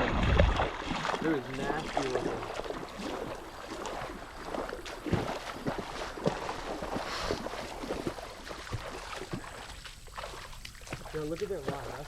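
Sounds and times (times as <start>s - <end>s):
footsteps wading through water: 0.0s - 12.0s.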